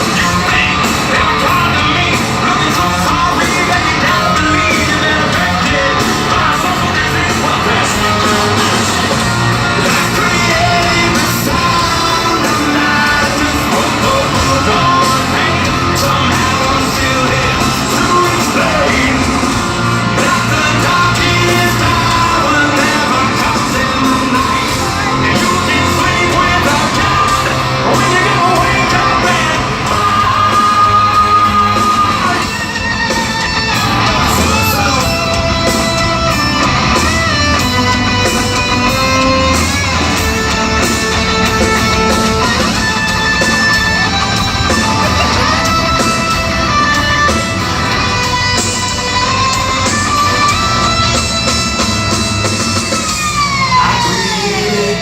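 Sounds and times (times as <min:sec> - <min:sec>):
person yelling singing: 0:00.0 - 0:51.9, 0:52.8 - 0:55.0
distorted electric guitars: 0:00.0 - 0:55.0
drums: 0:00.0 - 0:55.0.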